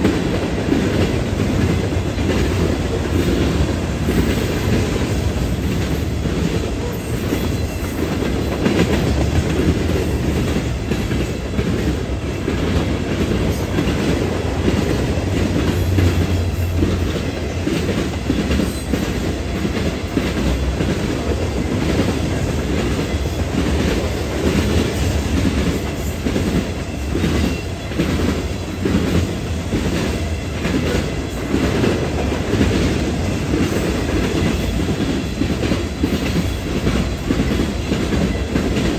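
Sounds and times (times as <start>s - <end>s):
railroad cars rumbling past: 0.0s - 38.9s.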